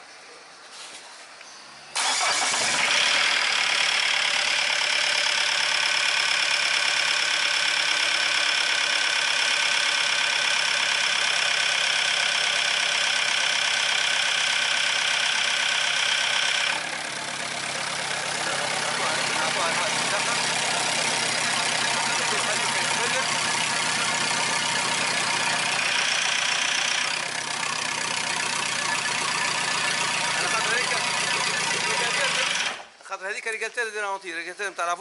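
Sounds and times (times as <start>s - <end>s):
diesel engine idling: 2.0s - 33.0s.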